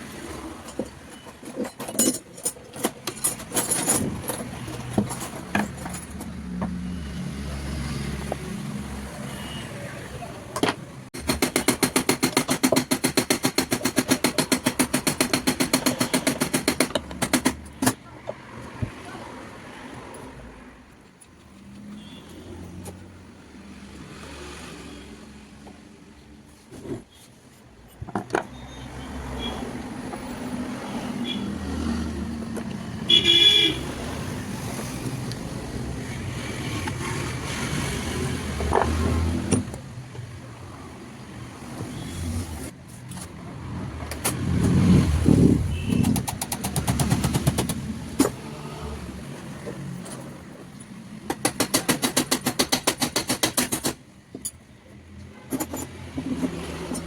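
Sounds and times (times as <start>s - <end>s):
mechanical shop noise: 0.0s - 19.0s, 26.6s - 40.7s, 41.5s - 57.0s
traffic noise: 0.0s - 57.0s.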